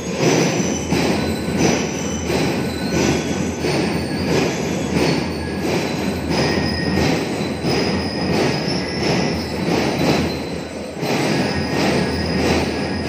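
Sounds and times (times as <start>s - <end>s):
marching drums: 0.0s - 13.0s.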